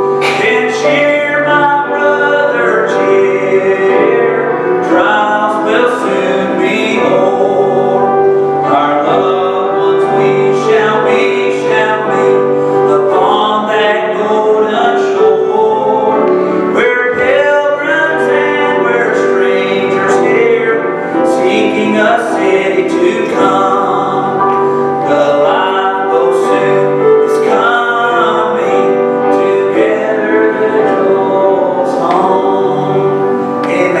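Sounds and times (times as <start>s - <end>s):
man singing gospel: 0.0s - 34.0s
piano: 0.0s - 34.0s.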